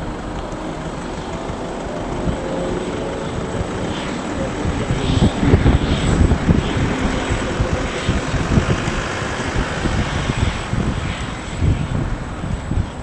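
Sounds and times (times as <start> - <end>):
jet aircraft whine and rumble: 0.0 - 13.0
wind buffeting microphone: 0.0 - 13.0.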